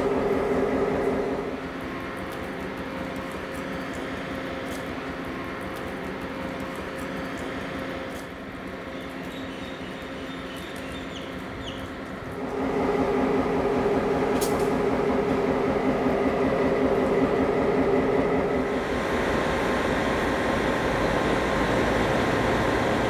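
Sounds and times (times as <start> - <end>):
diesel locomotive engine running: 0.0 - 23.0.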